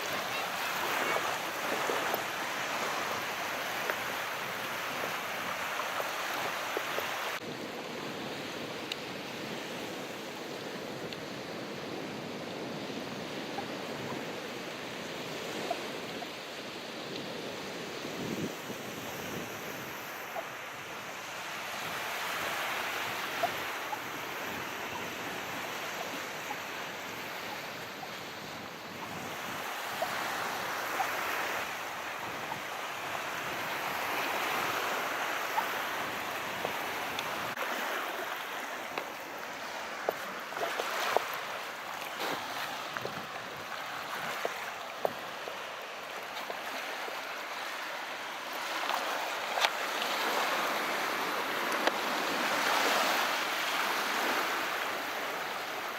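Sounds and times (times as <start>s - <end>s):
calm sea waves: 0.0s - 55.9s.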